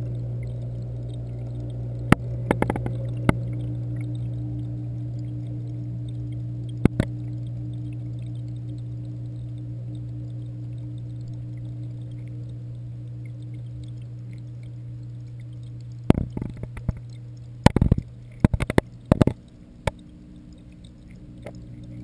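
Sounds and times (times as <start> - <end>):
underwater pump hum: 0.0 - 22.0.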